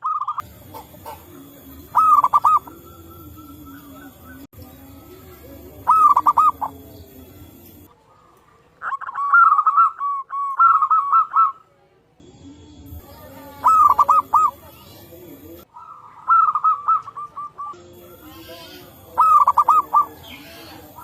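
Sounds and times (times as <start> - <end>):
doves cooing: 0.0 - 11.7, 12.9 - 21.0.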